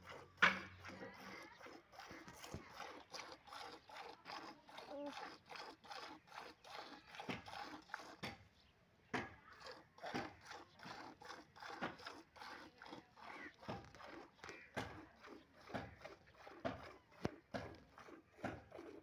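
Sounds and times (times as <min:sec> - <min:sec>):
milk squirting into a bowl: 0:00.2 - 0:08.4, 0:09.4 - 0:19.0.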